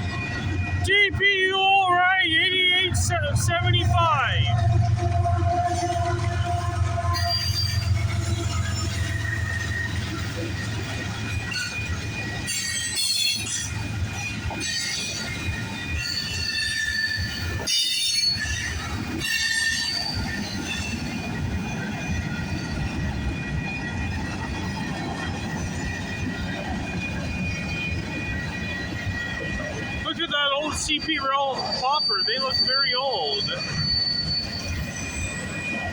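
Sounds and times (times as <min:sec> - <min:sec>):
train wheels rumbling on rails: 0:00.0 - 0:35.9
high-pitched wheel squeals: 0:04.9 - 0:24.4, 0:25.6 - 0:35.9.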